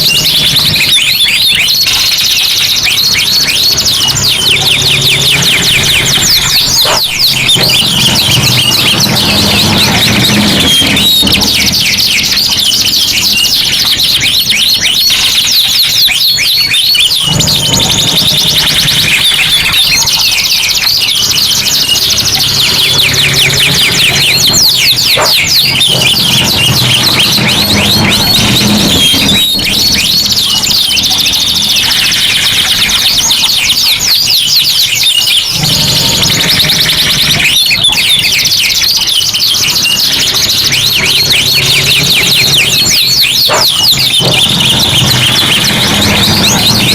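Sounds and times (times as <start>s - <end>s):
canaries singing trills: 0.0s - 46.9s.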